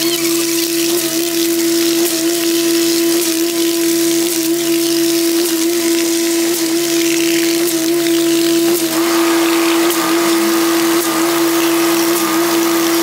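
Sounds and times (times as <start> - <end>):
concrete pump whine: 0.0 - 13.0
wet concrete splattering: 0.0 - 13.0.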